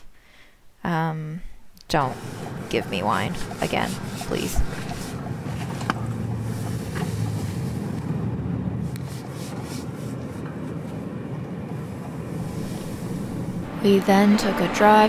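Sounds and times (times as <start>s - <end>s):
car engine and tyre rumble: 2.0s - 15.0s.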